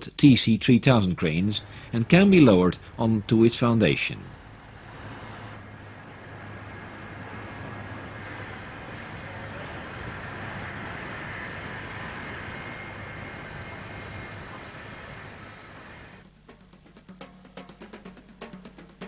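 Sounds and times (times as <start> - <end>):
heavy machinery humming: 0.7 - 16.2.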